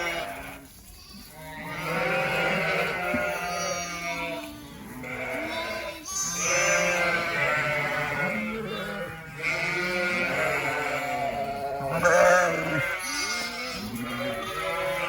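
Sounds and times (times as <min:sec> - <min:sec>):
sheep and lambs bleating: 0:00.0 - 0:15.0.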